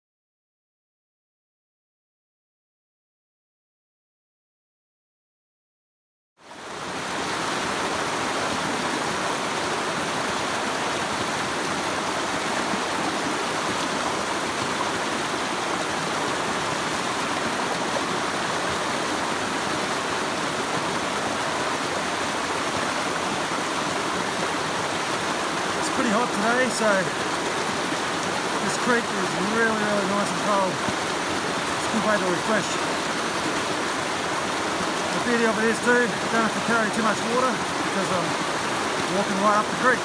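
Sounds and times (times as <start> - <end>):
creek water rushing over rocks: 6.4 - 40.0.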